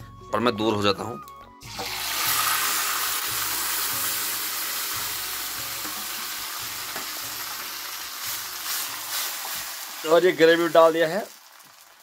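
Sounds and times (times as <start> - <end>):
gravy sizzling in hot oil: 1.6 - 12.0.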